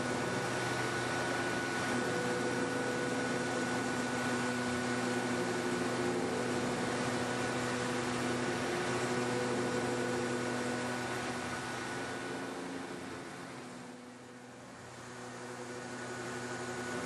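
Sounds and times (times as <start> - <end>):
machine spindle hum: 0.0 - 17.0.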